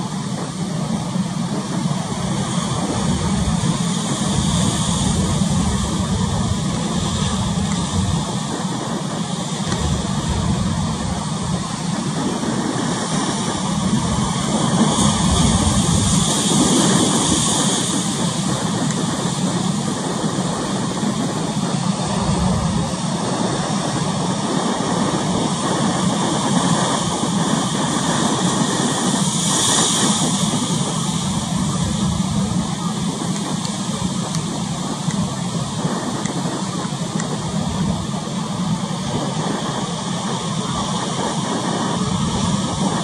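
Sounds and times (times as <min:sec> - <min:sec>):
choppy sea surging: 0:00.0 - 0:43.0
wind: 0:00.0 - 0:43.0.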